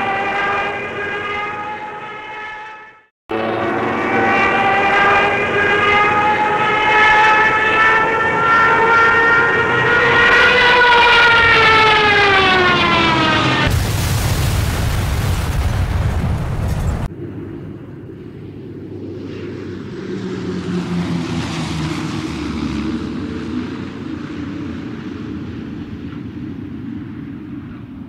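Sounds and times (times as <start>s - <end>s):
propeller plane engine drone: 0.0s - 14.8s, 15.8s - 28.0s.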